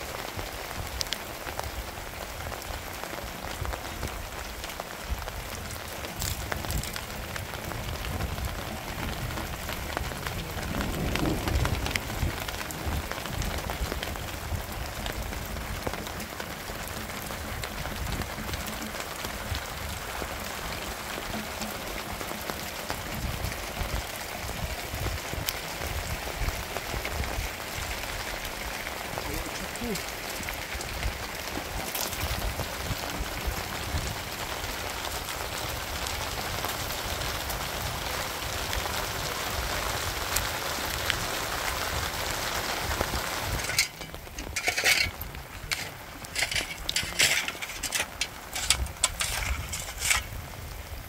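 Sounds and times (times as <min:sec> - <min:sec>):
rain on hard surfaces: 0:00.0 - 0:51.0.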